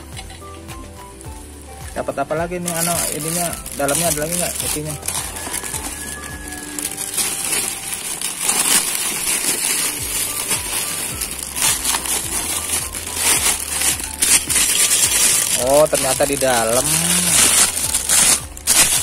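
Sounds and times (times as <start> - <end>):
packaging crinkling: 2.1 - 19.0.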